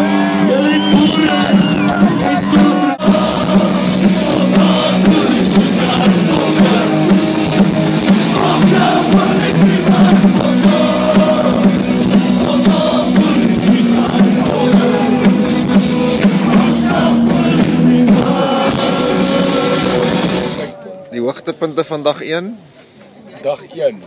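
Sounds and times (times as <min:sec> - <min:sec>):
person singing: 0:00.0 - 0:20.7
live rock band playing: 0:00.0 - 0:20.8.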